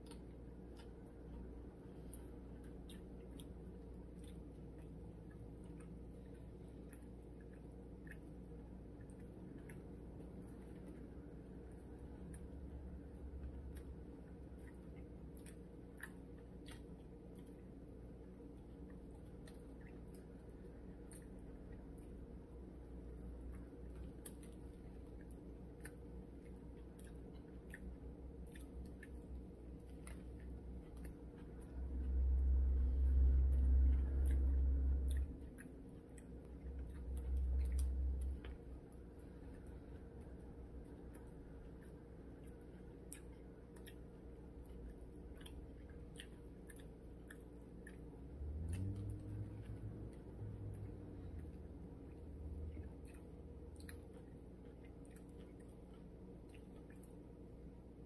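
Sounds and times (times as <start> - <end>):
low hum: 0.0 - 58.0
person chewing: 0.0 - 58.0.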